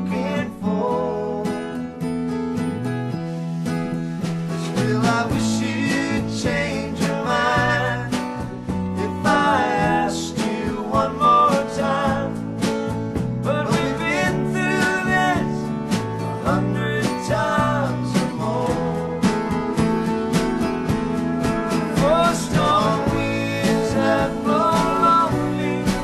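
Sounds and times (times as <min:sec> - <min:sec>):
acoustic guitar: 0:00.0 - 0:26.0.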